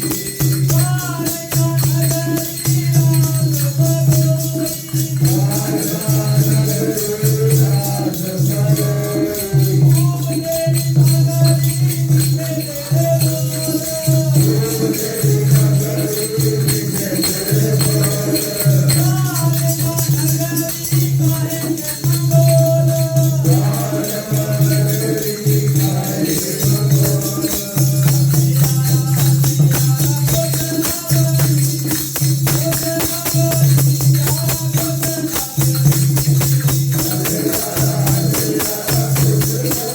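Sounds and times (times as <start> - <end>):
hymn singing: 0.0 - 31.4, 36.9 - 39.9
jingling hand percussion: 0.0 - 39.9.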